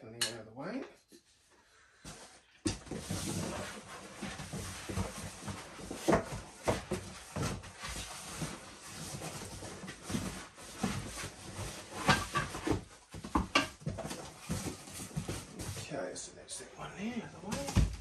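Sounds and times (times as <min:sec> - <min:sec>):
cardboard flaps rustling and scraping: 0:02.0 - 0:15.8, 0:17.4 - 0:18.0.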